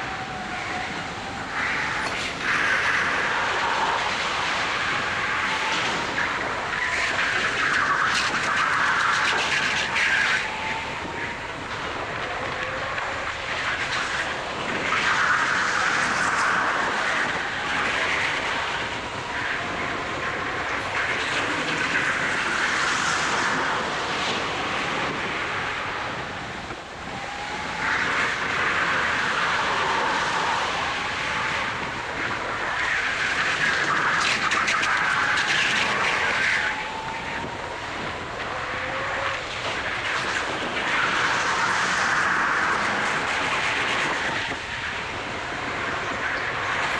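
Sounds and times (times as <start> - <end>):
rising whine: 0.0 - 46.9.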